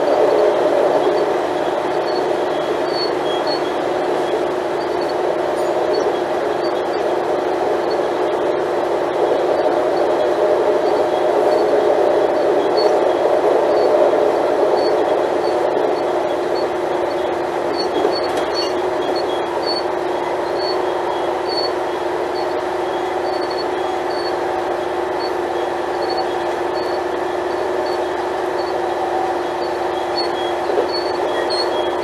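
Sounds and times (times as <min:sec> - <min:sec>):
train diesel engine droning: 0:00.0 - 0:32.0.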